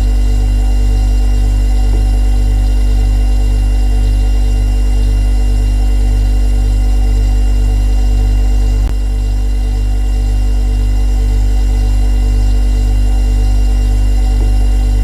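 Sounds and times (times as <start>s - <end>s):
refrigerator compressor hum: 0.0s - 15.0s.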